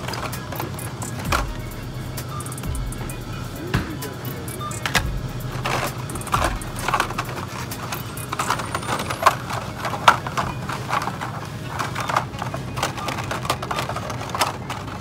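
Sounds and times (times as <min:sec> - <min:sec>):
plastic packages clacking and rustling: 0:00.0 - 0:15.0.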